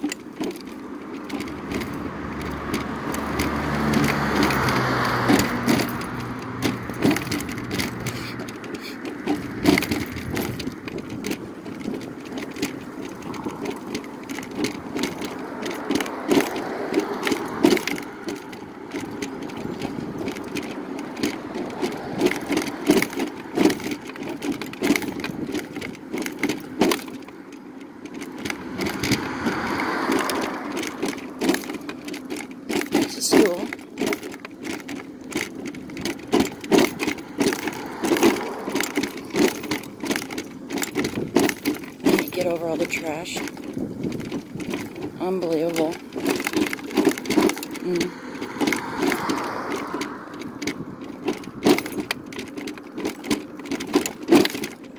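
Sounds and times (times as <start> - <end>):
mobility scooter rolling: 0.0 - 54.9
scooter body rattling: 0.0 - 54.9.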